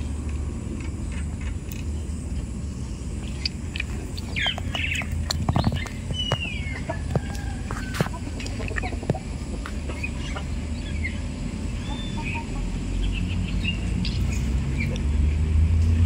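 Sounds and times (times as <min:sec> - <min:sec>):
small birds chirping: 0:00.0 - 0:15.5
steady low rumble: 0:00.0 - 0:16.0.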